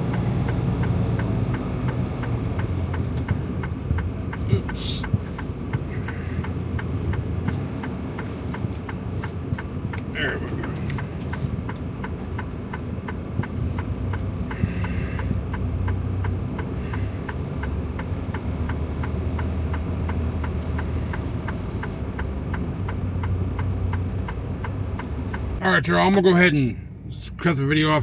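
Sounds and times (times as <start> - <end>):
turn signal clicking: 0.0 - 26.4
diesel engine idling: 0.0 - 28.0.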